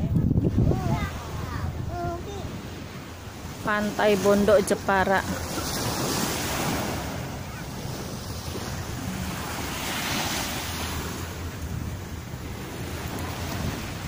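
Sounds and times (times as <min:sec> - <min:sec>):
small waves on sandy beach: 0:00.0 - 0:14.0
wind buffeting microphone: 0:00.0 - 0:14.0.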